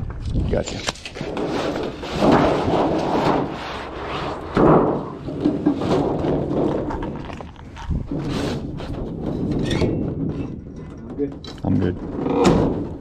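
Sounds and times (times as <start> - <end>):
sheet metal rumbling and flexing: 0.0 - 13.0.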